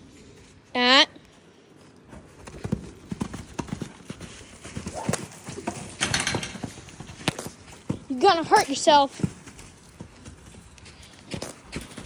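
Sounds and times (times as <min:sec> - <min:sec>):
horse hoofbeats cantering: 0:01.8 - 0:12.0.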